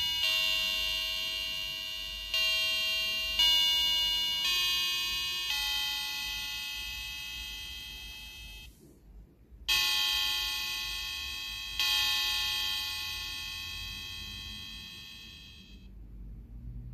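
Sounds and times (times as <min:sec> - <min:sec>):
electronic bell strikes: 0:00.0 - 0:08.7, 0:09.7 - 0:15.9.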